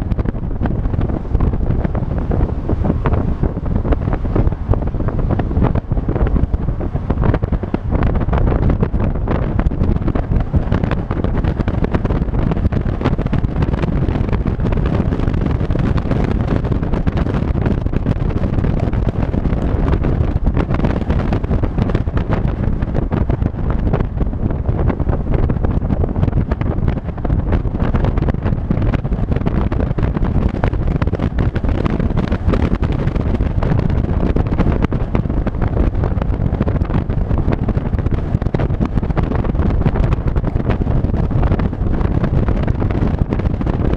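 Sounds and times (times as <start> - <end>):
road and engine noise: 0.0 - 43.9
wind buffeting microphone: 0.0 - 43.9.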